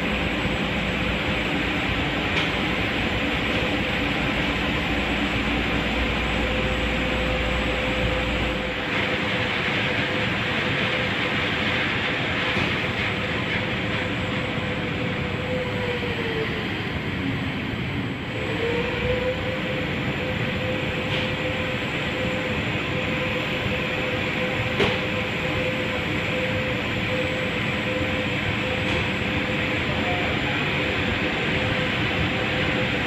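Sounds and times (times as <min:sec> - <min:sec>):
elevator machine rushing drone: 0:00.0 - 0:33.0.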